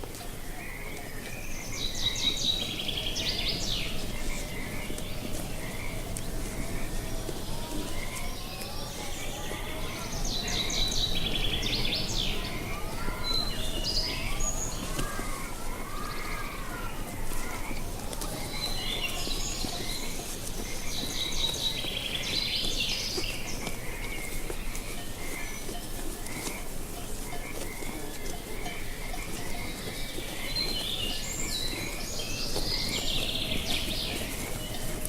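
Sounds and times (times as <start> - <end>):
birds chirping: 0.0 - 35.0
frogs calling: 0.0 - 35.0.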